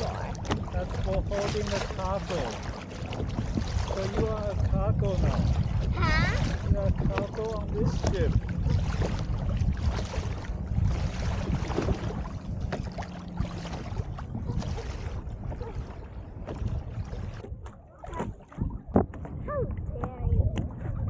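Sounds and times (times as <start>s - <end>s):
water lapping against kayak hull: 0.0s - 21.0s
wind buffeting microphone: 0.0s - 21.0s.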